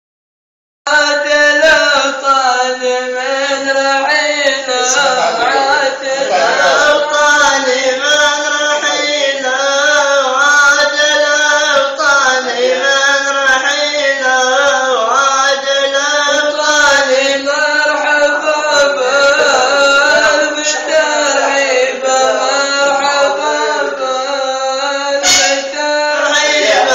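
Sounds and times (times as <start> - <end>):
man chanting: 0.9 - 26.9.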